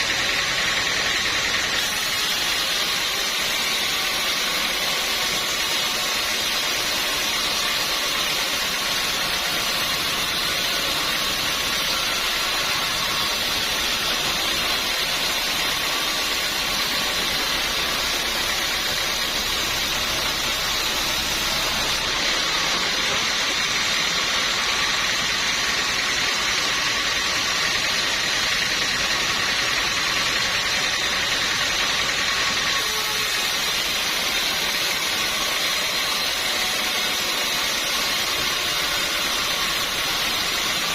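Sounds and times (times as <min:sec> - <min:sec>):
sawmill machinery whining: 0:00.0 - 0:40.9.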